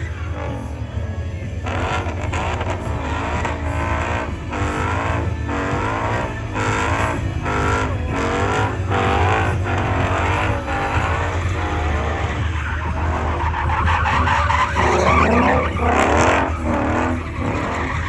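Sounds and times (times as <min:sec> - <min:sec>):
car engine at high revs: 0:00.0 - 0:18.0
tire squeal: 0:00.0 - 0:18.0.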